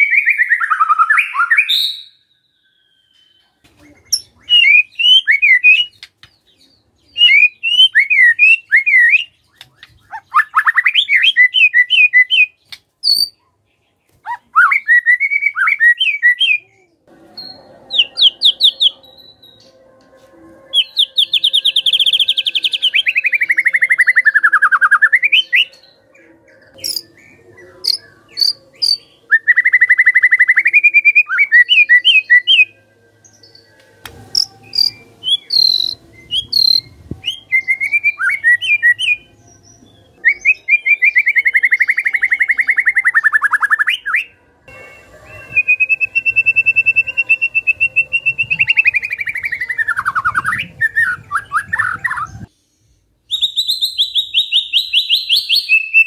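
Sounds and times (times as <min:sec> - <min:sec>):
bird singing whistled phrases: 0:00.0 - 0:13.4, 0:14.3 - 0:16.8, 0:20.7 - 0:52.5, 0:53.3 - 0:56.0.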